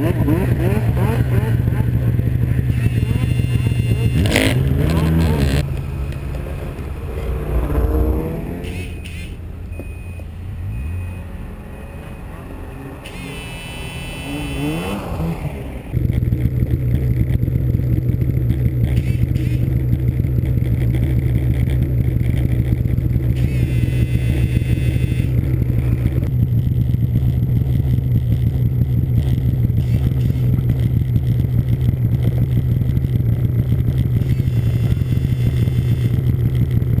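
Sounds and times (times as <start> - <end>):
snowmobile engine: 0.0 - 37.0.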